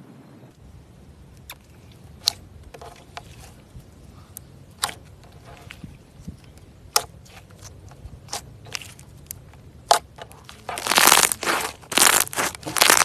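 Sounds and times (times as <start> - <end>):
crushing crackles and crunches: 1.3 - 13.0.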